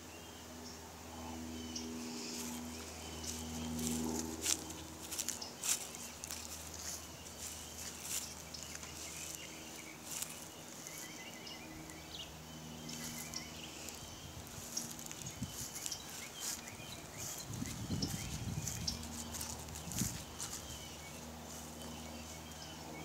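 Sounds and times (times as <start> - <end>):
low steady hum: 0.0 - 23.0
footsteps crunching: 2.1 - 23.0.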